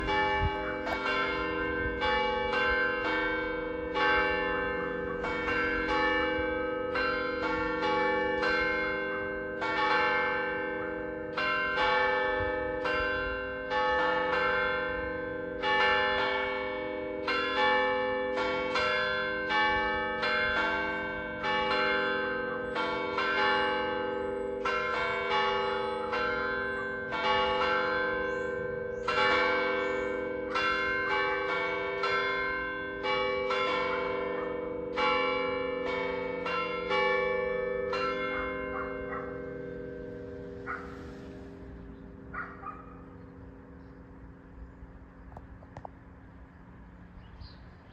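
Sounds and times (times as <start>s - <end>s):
church bells chiming: 0.0s - 47.6s.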